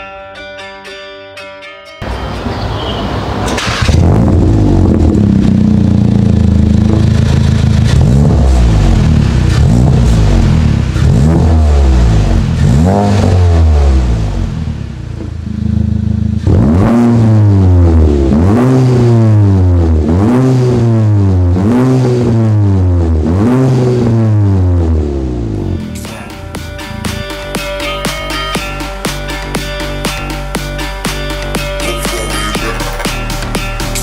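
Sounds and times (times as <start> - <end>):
car engine revving: 2.1 - 34.0.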